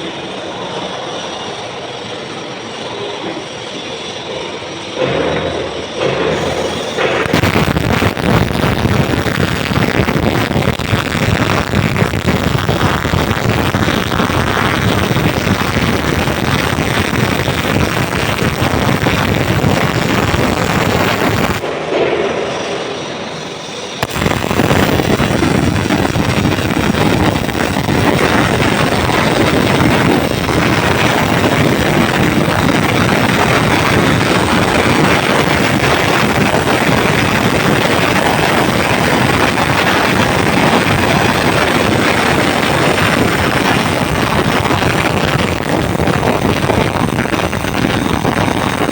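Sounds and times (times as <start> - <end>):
arc welding crackle: 5.0 - 21.8, 22.4 - 48.9.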